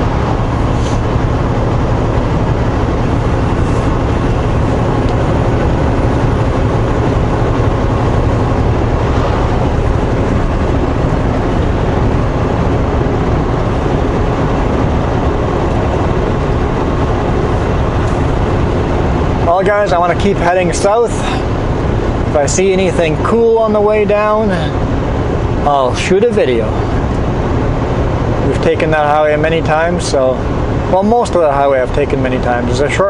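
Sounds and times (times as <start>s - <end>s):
truck diesel engine drone: 0.0s - 33.0s.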